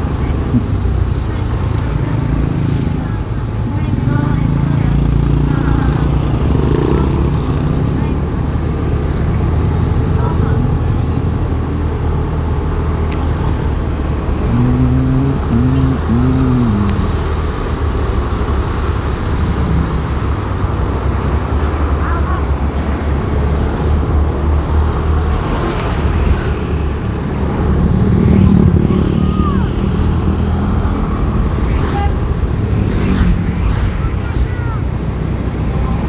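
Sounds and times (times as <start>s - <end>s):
road noise: 0.0s - 36.0s.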